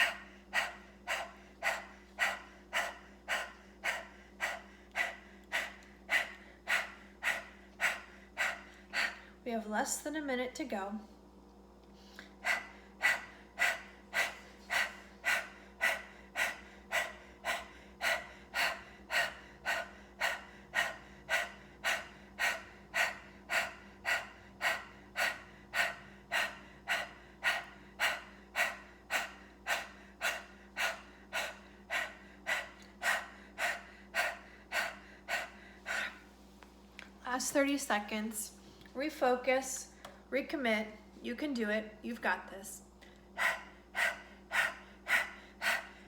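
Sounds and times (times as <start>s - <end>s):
woman panting breaths: 0.0s - 9.4s, 11.9s - 36.5s, 43.0s - 46.0s.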